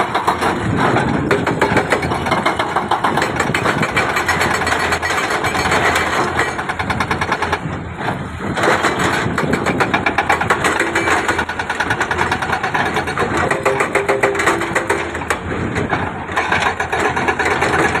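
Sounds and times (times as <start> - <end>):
diesel engine rattling: 0.0 - 18.0.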